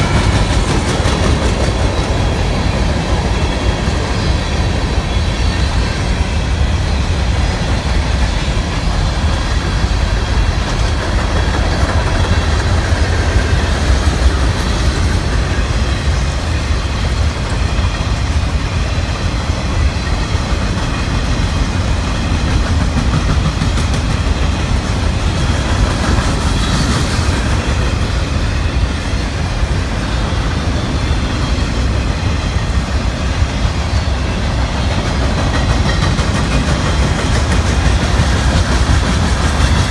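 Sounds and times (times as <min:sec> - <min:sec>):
steel wheels running on rails: 0:00.0 - 0:39.9.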